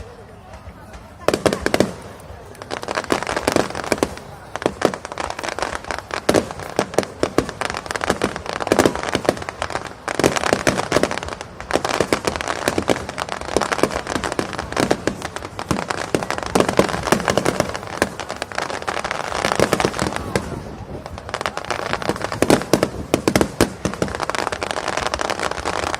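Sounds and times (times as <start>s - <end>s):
fireworks barrage: 0.0s - 25.9s.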